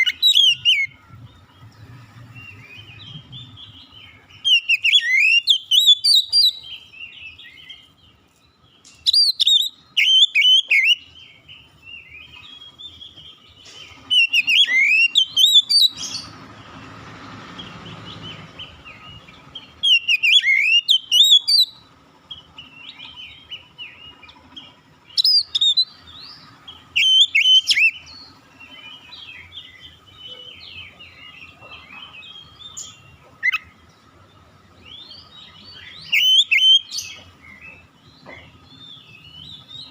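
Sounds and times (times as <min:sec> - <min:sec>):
magpie-robin whistled song: 0:00.0 - 0:16.4, 0:17.6 - 0:39.9.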